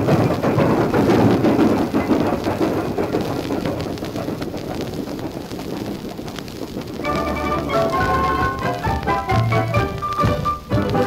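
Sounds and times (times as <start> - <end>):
record crackle and hiss: 0.0 - 11.0.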